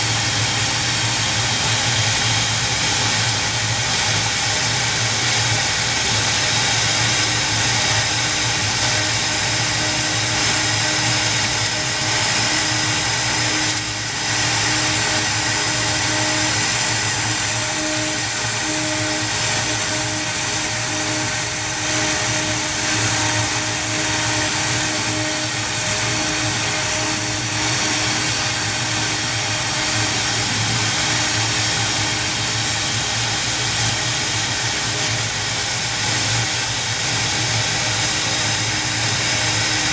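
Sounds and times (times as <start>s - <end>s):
router spindle milling plywood: 0.0s - 39.9s.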